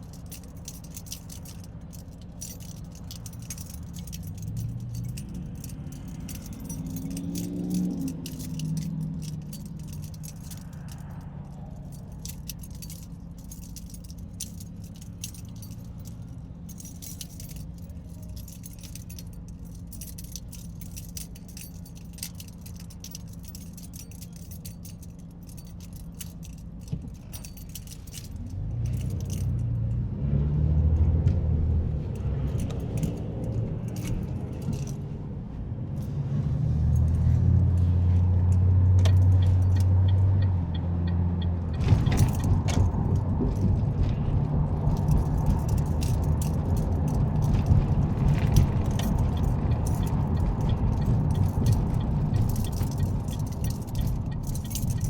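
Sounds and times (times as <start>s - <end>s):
loose keys jingling: 0.0s - 30.2s, 32.0s - 35.2s, 35.9s - 55.0s
car engine and road hum: 0.0s - 55.0s.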